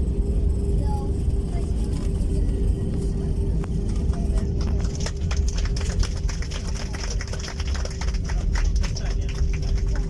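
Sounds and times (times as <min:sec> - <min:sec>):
engine hum: 0:00.0 - 0:10.0
low rumble: 0:00.0 - 0:10.0.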